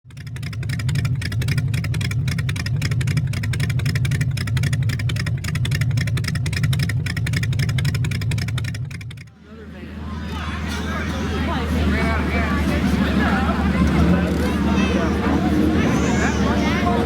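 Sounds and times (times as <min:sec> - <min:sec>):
engines with open exhaust: 0:00.0 - 0:17.0.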